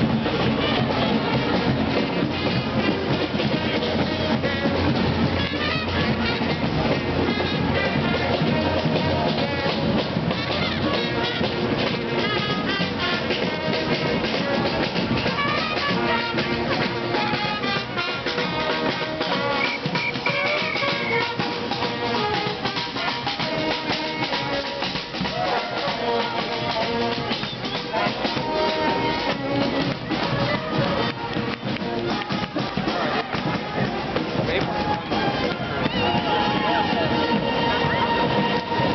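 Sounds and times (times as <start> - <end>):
brass band horns: 0.0 - 38.9
marching drums: 0.0 - 38.9.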